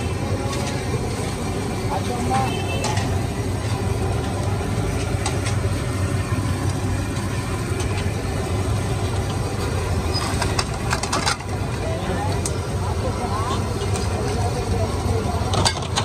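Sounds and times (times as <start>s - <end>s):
low mechanical hum: 0.0s - 16.0s
noisy background: 0.0s - 16.0s.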